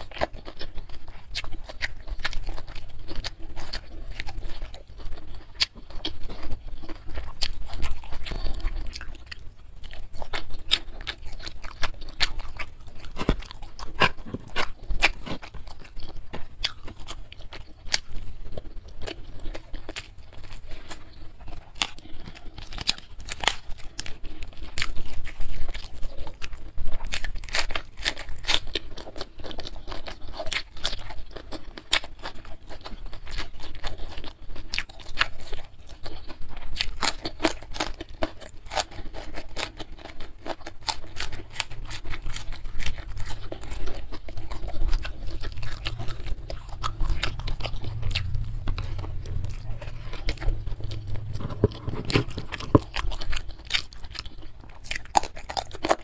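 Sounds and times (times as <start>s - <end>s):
close-miked chewing with mouth clicks: 0.0s - 56.0s.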